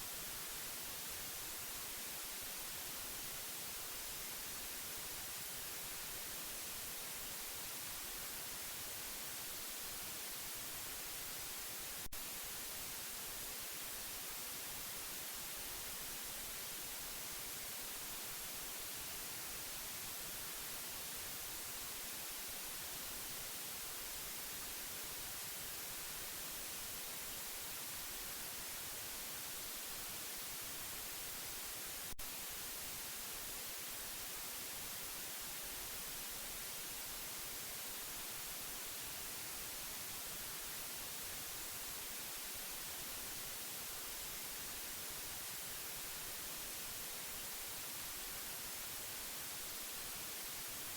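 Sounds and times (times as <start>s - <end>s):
steady white noise hiss: 0.0s - 50.9s.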